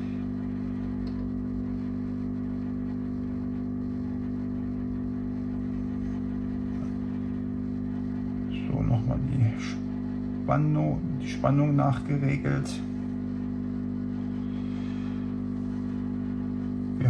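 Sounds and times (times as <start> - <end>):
tube tester mains hum: 0.0 - 17.0.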